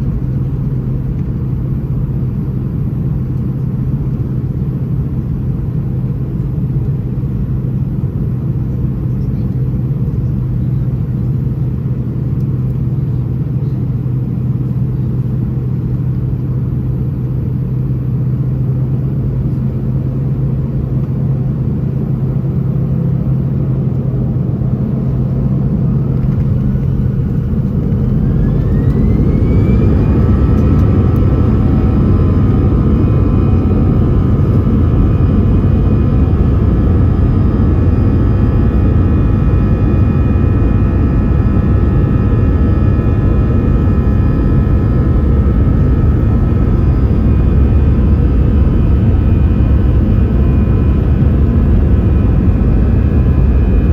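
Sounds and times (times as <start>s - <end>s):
airplane cabin rumble: 0.0s - 53.9s
jet engines spooling up whine: 0.0s - 53.9s.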